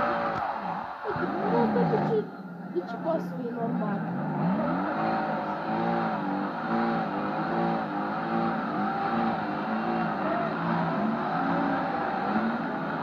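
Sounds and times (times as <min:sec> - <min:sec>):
car engine revving: 0:00.0 - 0:13.0
tyre and road noise: 0:00.0 - 0:13.0.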